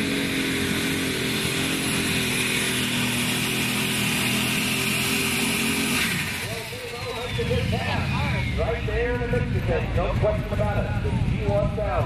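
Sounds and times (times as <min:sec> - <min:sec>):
tractor engine under full throttle: 0:00.0 - 0:12.0.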